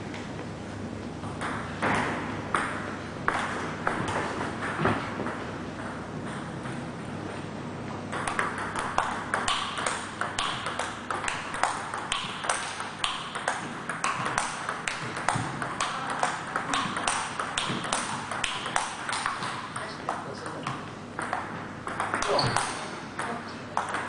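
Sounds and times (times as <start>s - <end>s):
table tennis ball hits: 1.3s - 6.8s, 8.1s - 24.0s.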